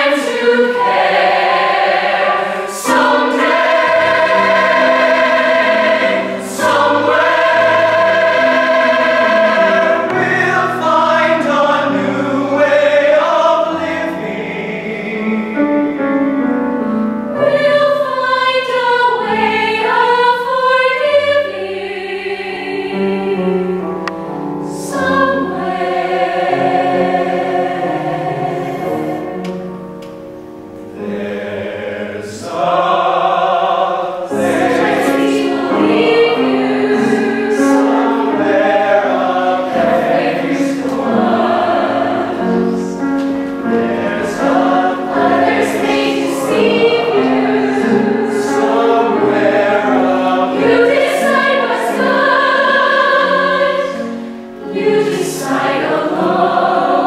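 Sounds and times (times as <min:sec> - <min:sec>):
mixed choir singing: 0:00.0 - 0:16.5, 0:17.3 - 0:23.9, 0:24.6 - 0:29.8, 0:30.8 - 0:57.0.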